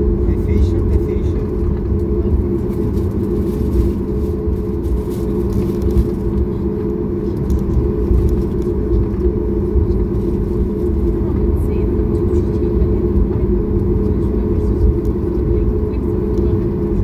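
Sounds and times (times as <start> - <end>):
jet engines rumbling at taxi: 0.0 - 17.0.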